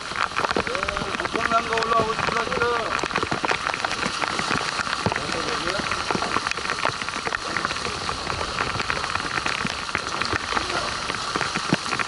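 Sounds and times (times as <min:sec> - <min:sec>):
rain and sea spray pattering: 0:00.0 - 0:12.0.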